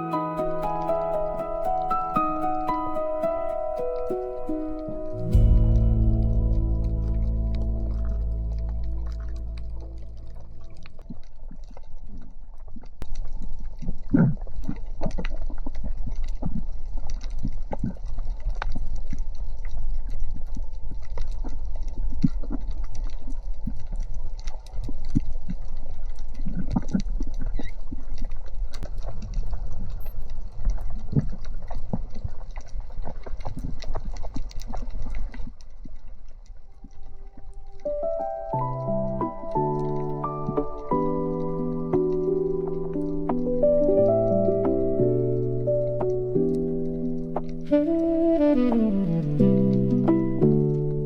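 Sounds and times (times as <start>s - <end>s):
underwater rumble of moving water: 0.0s - 51.0s
irregular underwater clicks and knocks: 0.6s - 48.0s.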